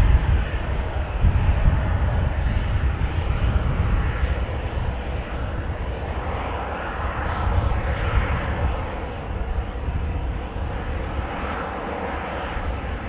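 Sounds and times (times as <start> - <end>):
airliner engines rushing: 0.0 - 13.0
wind buffeting microphone: 0.0 - 13.0.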